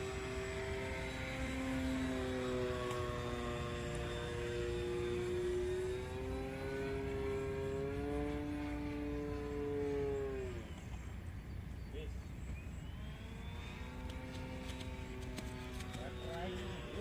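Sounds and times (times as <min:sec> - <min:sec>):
model plane motor whine: 0:00.0 - 0:17.0.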